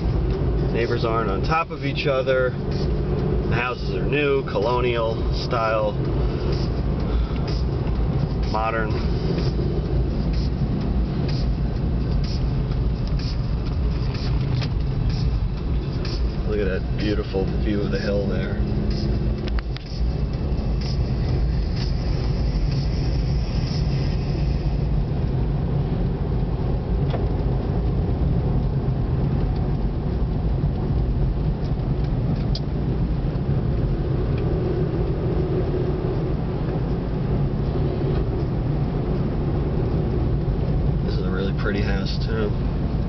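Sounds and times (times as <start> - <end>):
car engine and tyre noise: 0.0 - 43.0.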